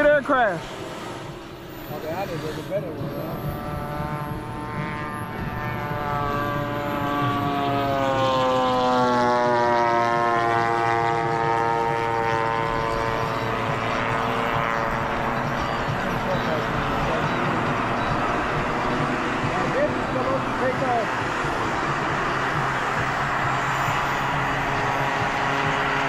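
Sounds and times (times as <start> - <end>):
model airplane engines: 0.0 - 26.0.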